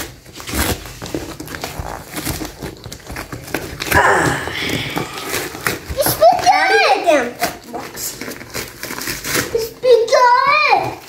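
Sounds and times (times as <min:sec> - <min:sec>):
paper and tape ripping: 0:00.0 - 0:04.1, 0:04.7 - 0:11.0.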